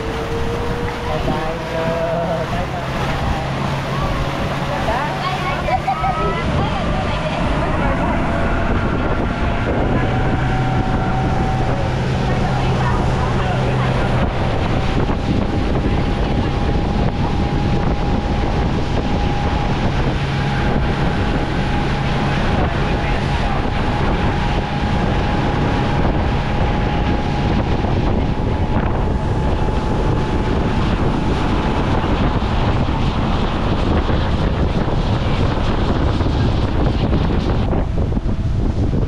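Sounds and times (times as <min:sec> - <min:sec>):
motorboat engine running: 0:00.0 - 0:39.0
water rushing past hull: 0:00.0 - 0:39.0
wind buffeting microphone: 0:00.0 - 0:39.0.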